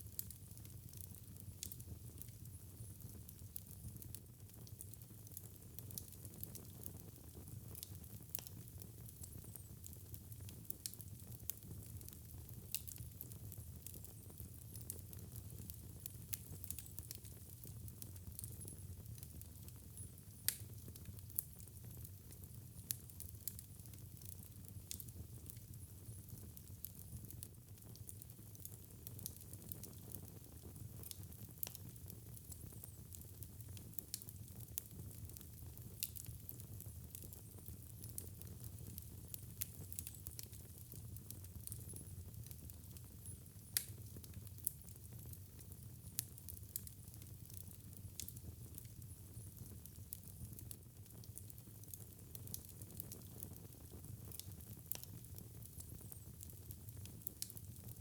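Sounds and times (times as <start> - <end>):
fire crackling and popping: 0.0 - 58.0.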